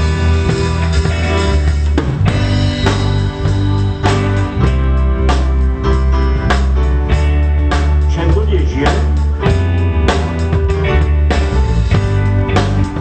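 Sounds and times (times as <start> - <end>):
drum kit beat: 0.0 - 13.0
guitar: 0.0 - 13.0
heavy bass line: 0.0 - 13.0
live pop band playing: 0.0 - 13.0.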